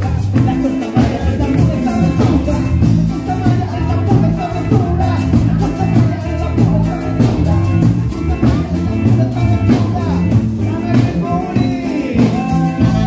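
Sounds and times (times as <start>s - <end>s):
live band playing latin dance music: 0.0s - 13.0s.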